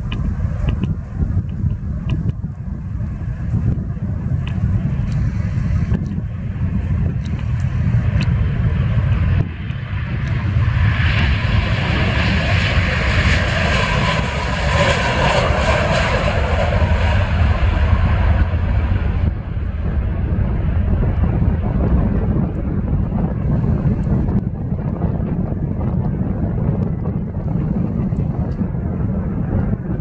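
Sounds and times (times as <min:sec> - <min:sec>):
jet engines rushing: 0:00.0 - 0:30.0
wind on microphone: 0:00.0 - 0:30.0.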